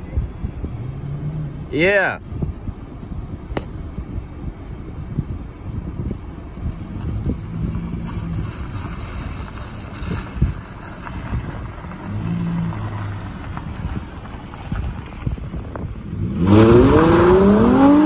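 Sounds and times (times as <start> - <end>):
car engine rumbling: 0.0 - 18.0
wind buffeting microphone: 0.0 - 18.0.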